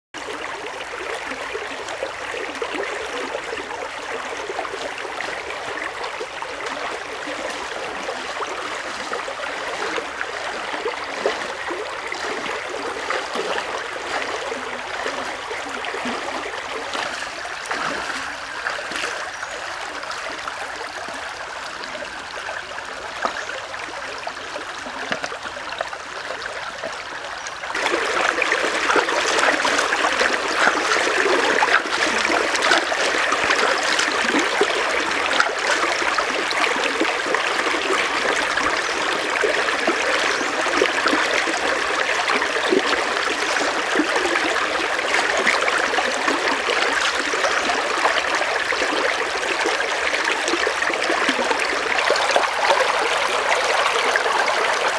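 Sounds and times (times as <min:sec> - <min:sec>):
stream water trickling: 0:00.2 - 0:54.9.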